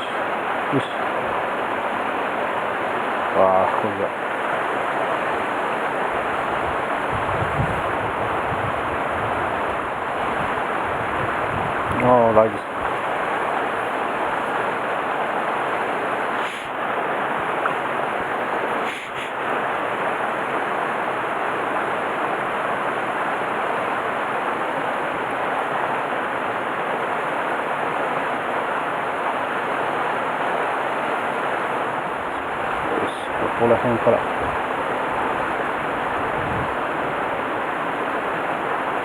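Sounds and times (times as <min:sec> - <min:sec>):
stream flowing over rocks: 0:00.0 - 0:39.0.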